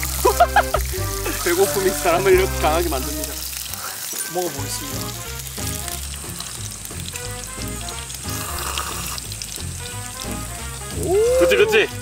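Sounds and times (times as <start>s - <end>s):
background music: 0.0s - 12.0s
meat sizzling on a grill: 0.0s - 12.0s.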